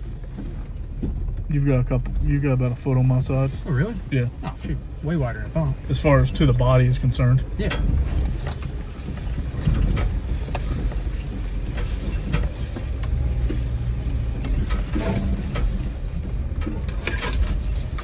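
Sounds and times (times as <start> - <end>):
brush scraping vehicle body: 0.0 - 18.0
vehicle engine rumble: 0.0 - 18.0.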